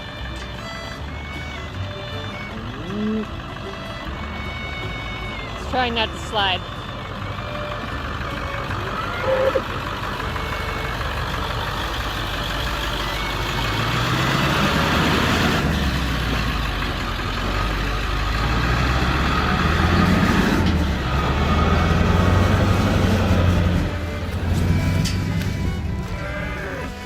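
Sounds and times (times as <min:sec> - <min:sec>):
vehicle engine under load: 0:00.0 - 0:27.0.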